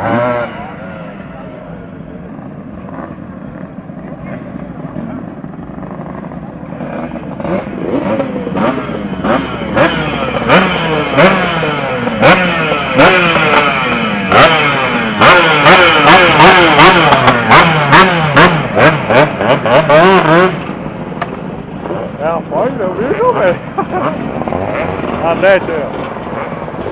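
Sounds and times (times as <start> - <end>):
two-stroke motorcycle engines revving: 0.0 - 26.9.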